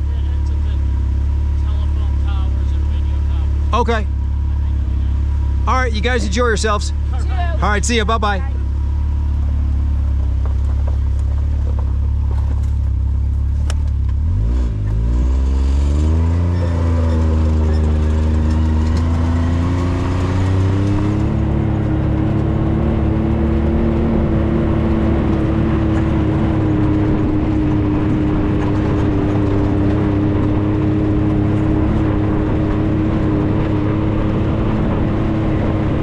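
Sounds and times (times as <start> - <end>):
car engine accelerating uphill: 0.0 - 36.0
road driving noise: 0.0 - 36.0.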